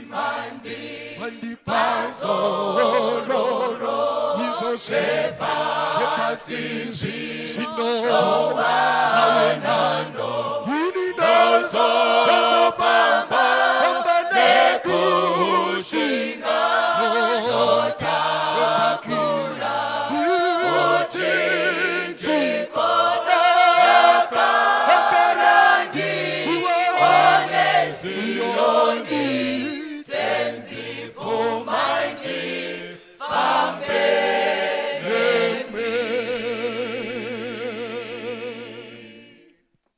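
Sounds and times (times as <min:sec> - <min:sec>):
choir singing a hymn: 0:00.0 - 0:39.6.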